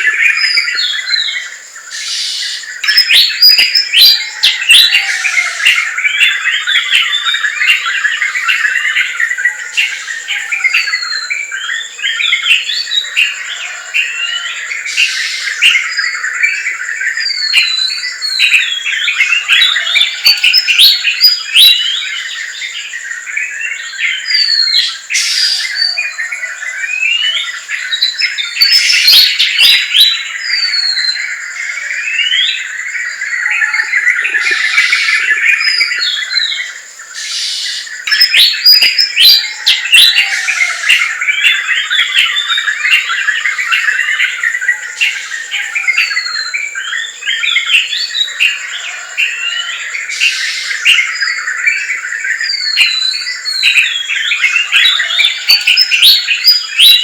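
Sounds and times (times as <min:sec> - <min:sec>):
birds chirping and calling: 0:00.0 - 0:57.0.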